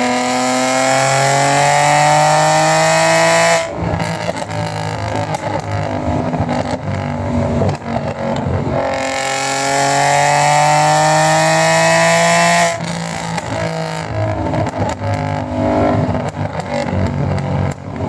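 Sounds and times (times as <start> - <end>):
car exhaust burbling and revving: 0.0 - 18.0.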